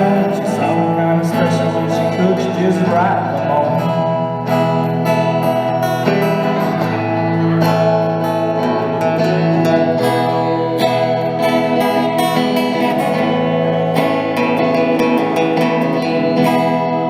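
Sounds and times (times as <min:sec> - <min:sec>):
country music with strummed guitar: 0:00.0 - 0:17.0.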